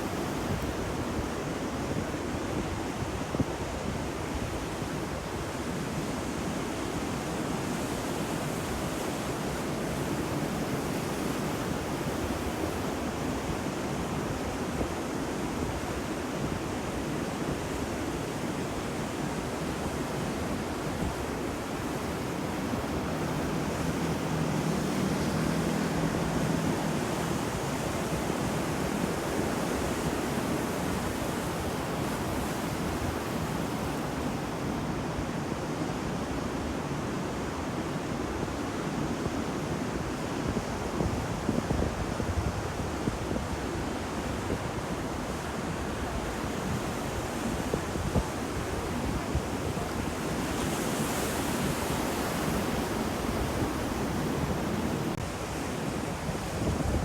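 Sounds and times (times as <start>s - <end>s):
sea waves washing on shore: 0.0s - 57.0s.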